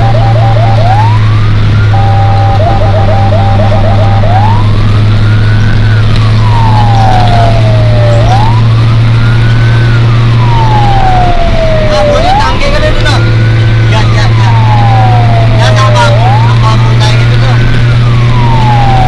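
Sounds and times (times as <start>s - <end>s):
emergency siren: 0.0s - 19.0s.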